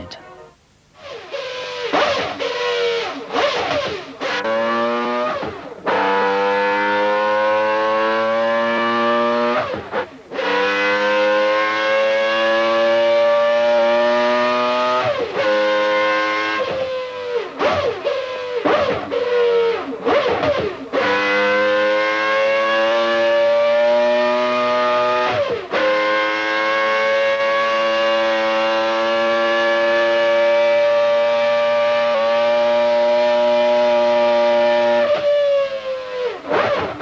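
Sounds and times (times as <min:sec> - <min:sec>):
racing engine revving: 0:01.0 - 0:37.0.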